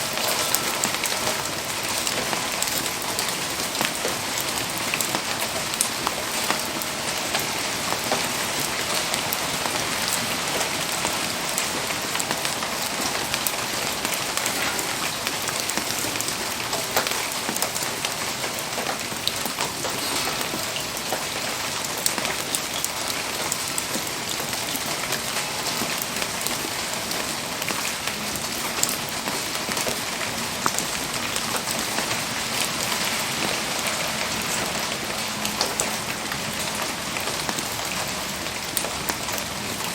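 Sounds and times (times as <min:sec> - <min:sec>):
rain falling: 0:00.0 - 0:39.9
raindrops ticking on surfaces: 0:00.0 - 0:39.9.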